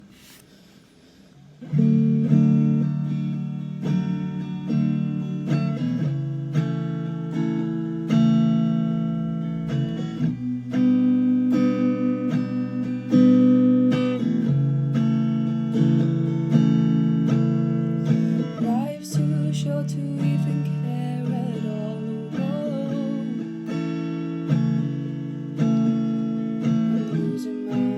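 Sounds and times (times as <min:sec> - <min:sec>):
acoustic guitar strumming: 0:01.6 - 0:27.9.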